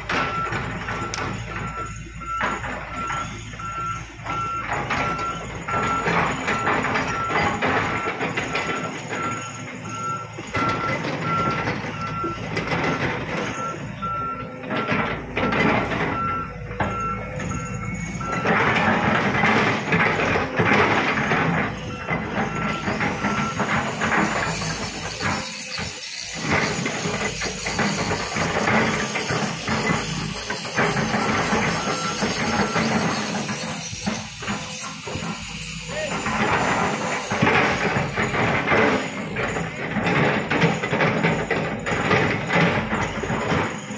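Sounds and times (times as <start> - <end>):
excavator engine and hydraulics: 0.0 - 43.9
electronic beep alarm: 0.1 - 35.4.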